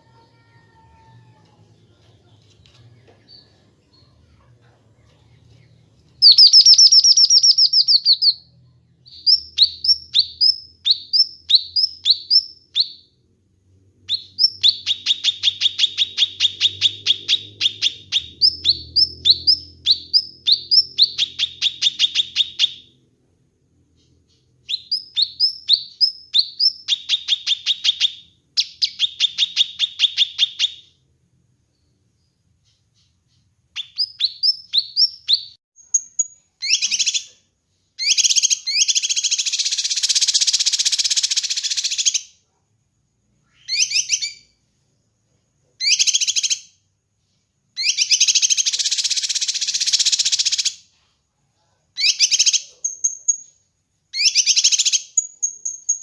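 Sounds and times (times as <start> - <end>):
songbird singing: 5.0 - 13.3, 14.0 - 23.1, 23.7 - 31.0, 31.6 - 37.4, 38.0 - 42.4, 43.3 - 45.2, 45.8 - 46.8, 47.8 - 50.8, 52.0 - 56.0.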